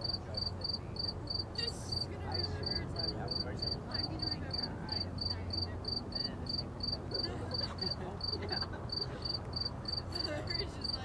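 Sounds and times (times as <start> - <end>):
cricket chirping: 0.0 - 11.0
distant freeway traffic hum: 0.0 - 11.0.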